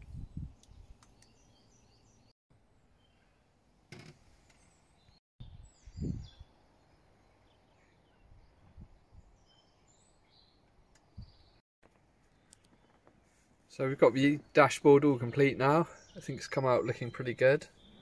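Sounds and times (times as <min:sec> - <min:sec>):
small birds chirping: 0:00.0 - 0:03.6, 0:04.3 - 0:11.6, 0:12.2 - 0:18.0.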